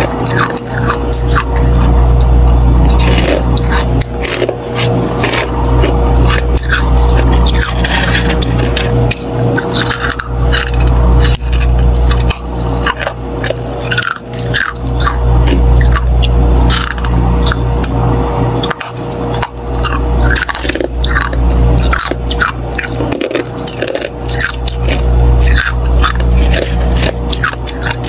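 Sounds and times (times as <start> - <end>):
frost being scraped and crunched: 0.0 - 17.6, 18.6 - 28.0
steady low hum: 0.0 - 28.0.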